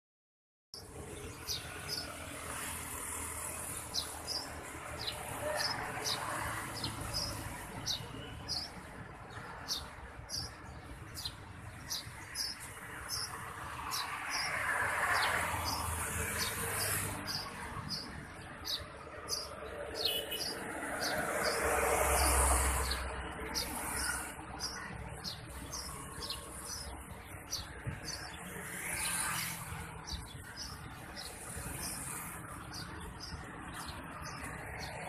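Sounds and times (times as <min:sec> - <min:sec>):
birds chirping: 0:00.8 - 0:35.0.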